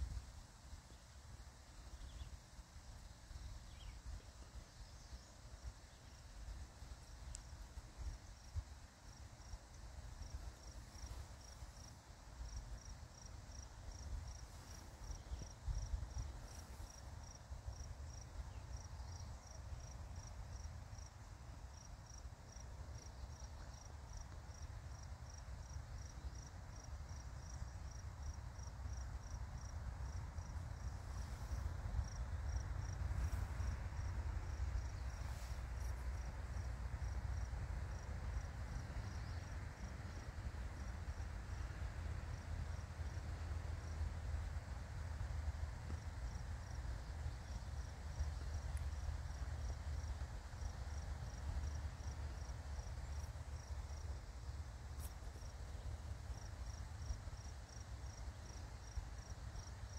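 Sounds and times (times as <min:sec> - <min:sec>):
insect chirping: 0:00.0 - 0:59.9.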